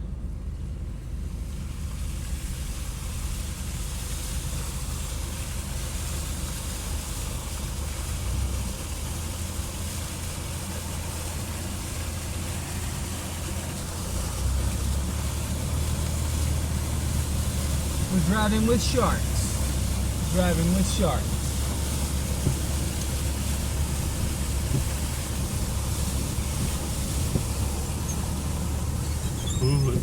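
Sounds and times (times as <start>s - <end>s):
vehicle engine running low: 0.0s - 30.0s
tyres hissing through water: 1.3s - 30.0s.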